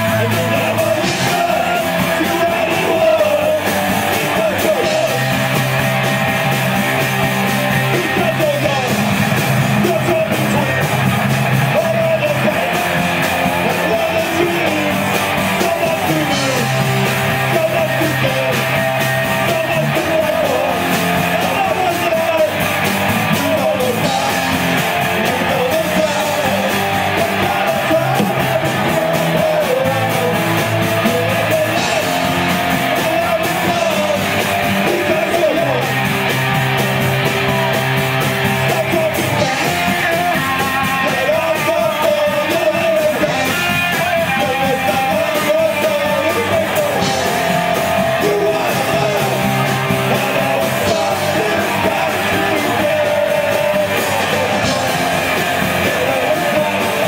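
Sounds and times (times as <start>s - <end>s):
person singing into a microphone: 0.0s - 5.4s, 7.9s - 10.9s, 11.5s - 36.0s, 38.5s - 57.0s
drums: 0.0s - 57.0s
guitars: 0.0s - 57.0s.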